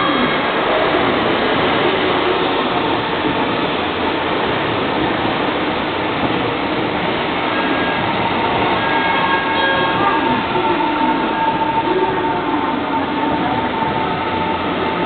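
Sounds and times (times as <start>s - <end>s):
train rolling on track: 0.0s - 15.0s.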